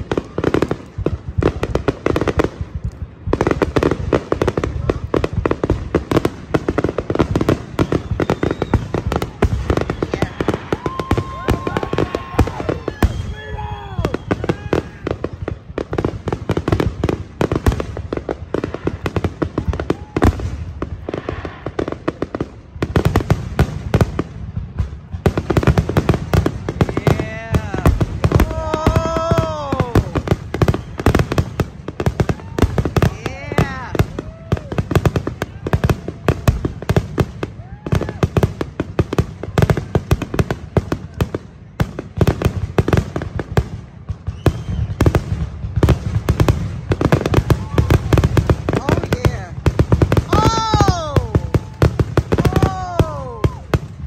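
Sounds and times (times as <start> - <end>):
fireworks bursting: 0.0 - 54.0
fireworks crackling: 0.0 - 54.0.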